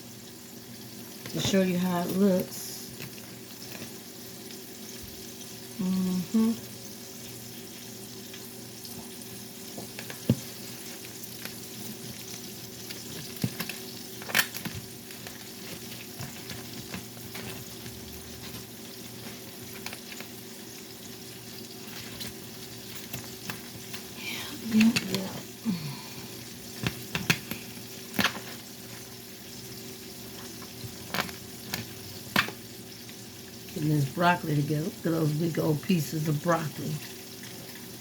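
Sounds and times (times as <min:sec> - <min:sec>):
fish sizzling in a pan: 0:00.0 - 0:38.0.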